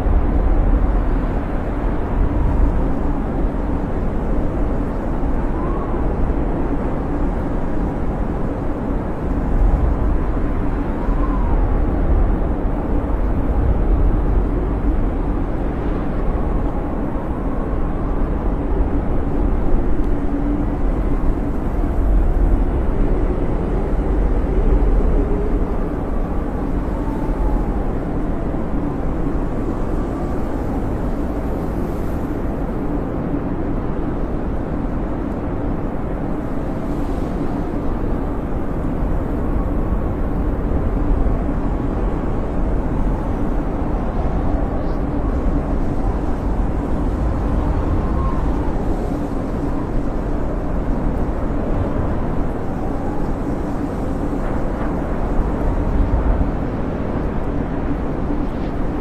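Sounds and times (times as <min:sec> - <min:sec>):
howling snowstorm wind: 0:00.0 - 0:59.0.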